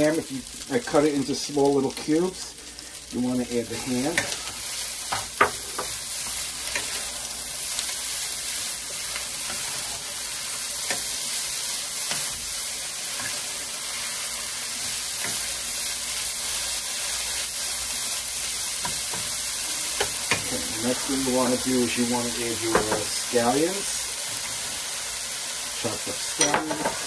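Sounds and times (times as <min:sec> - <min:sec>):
meat sizzling in butter: 0:00.0 - 0:27.0.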